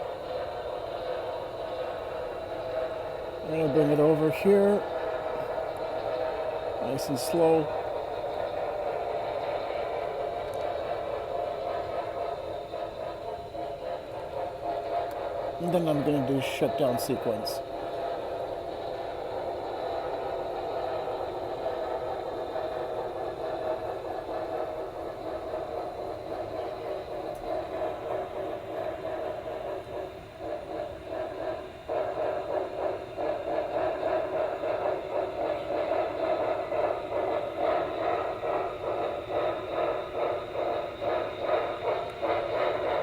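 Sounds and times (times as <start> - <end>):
model steam locomotive chuffing: 0.0 - 43.0.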